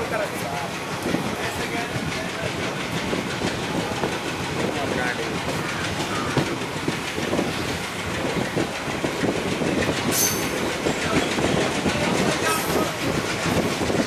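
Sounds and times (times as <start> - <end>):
train running rumble: 0.0 - 14.0
wheels clacking over rails: 0.0 - 14.0.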